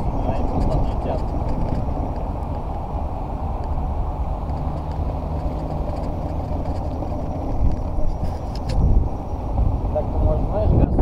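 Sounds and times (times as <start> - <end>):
wheel rumbling over paving: 0.0 - 11.0
wind over microphone: 0.0 - 11.0.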